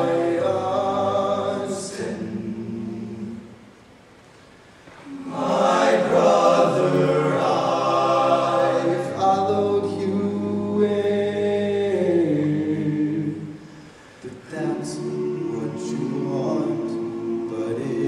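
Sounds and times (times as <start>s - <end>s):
male choir singing in harmony: 0.0s - 3.7s, 5.0s - 18.0s.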